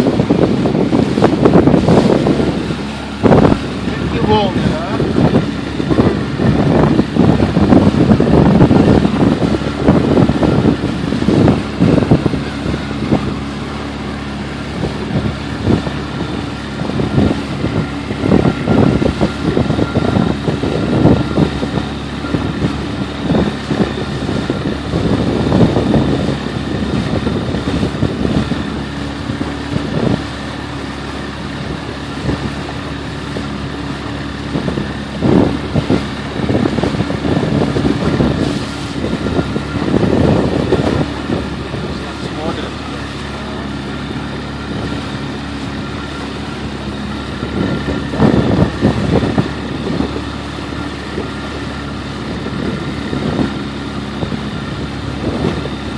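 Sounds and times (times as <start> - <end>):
choppy water against hull: 0.0 - 55.9
motorboat engine running: 0.0 - 55.9
wind buffeting: 0.0 - 55.9.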